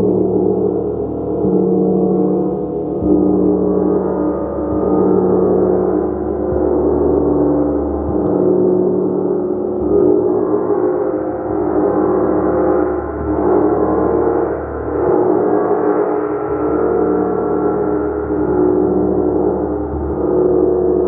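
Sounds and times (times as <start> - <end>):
large gong shimmering wash: 0.0 - 21.0.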